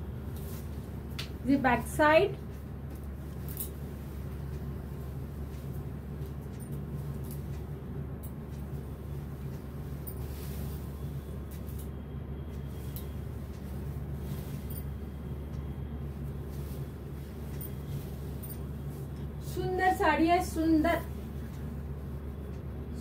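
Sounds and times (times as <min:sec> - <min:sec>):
low room hum: 0:00.0 - 0:23.0
fabric rustling: 0:00.1 - 0:07.8, 0:08.4 - 0:11.9, 0:12.6 - 0:22.5.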